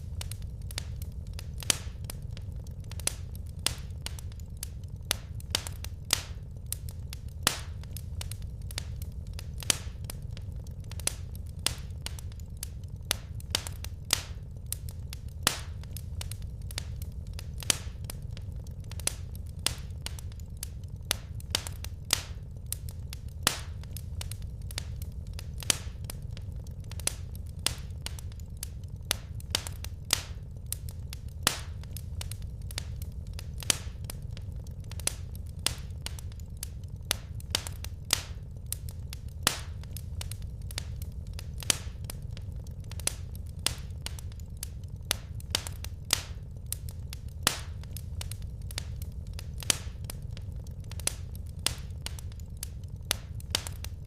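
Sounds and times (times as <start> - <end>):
low fire rumble: 0.0 - 54.0
wood fire popping and snapping: 0.0 - 54.0.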